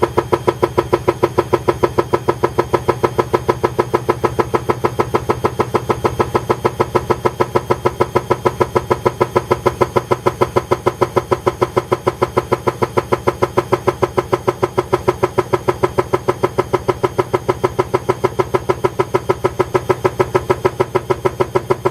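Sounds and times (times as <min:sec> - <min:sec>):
washing machine drum turning: 0:00.0 - 0:21.9.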